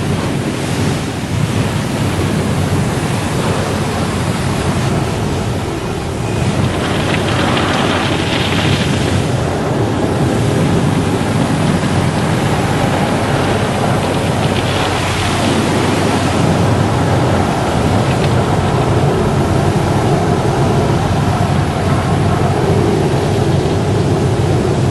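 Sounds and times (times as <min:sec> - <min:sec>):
low machine hum: 0:00.0 - 0:24.9
spraying water: 0:00.0 - 0:24.9.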